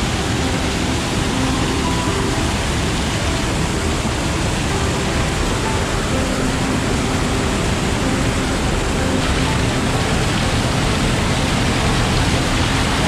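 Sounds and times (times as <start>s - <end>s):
waterfall rushing into a pool: 0.0s - 13.0s.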